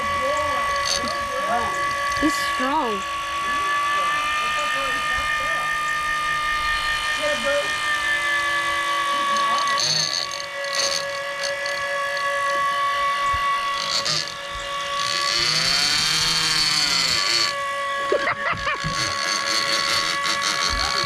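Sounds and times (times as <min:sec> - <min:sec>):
fishing reel motor whining: 0:00.0 - 0:21.0.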